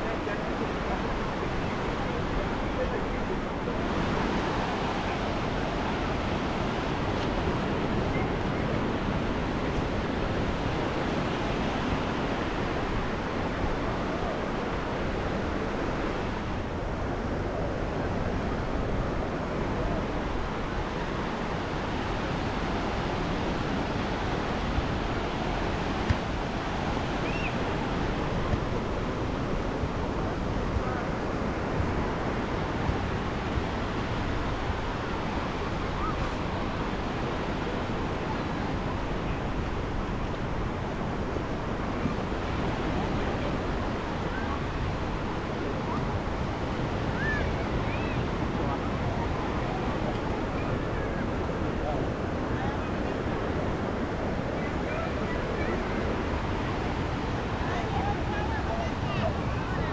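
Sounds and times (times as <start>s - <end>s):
small ocean waves breaking on sand: 0.0s - 59.9s.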